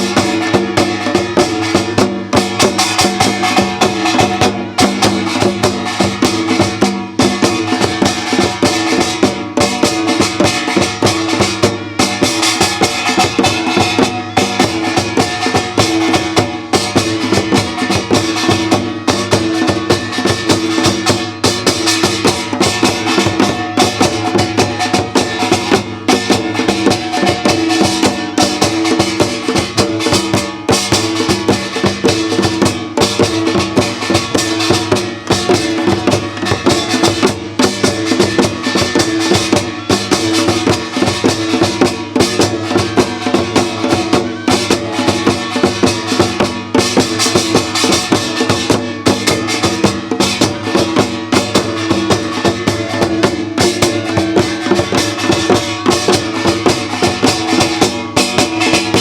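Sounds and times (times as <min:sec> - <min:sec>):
fast folk percussion: 0:00.0 - 0:59.0.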